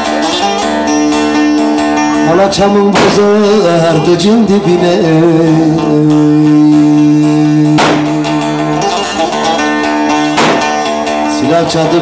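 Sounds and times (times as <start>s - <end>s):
lute strummed strokes: 0.0s - 12.0s.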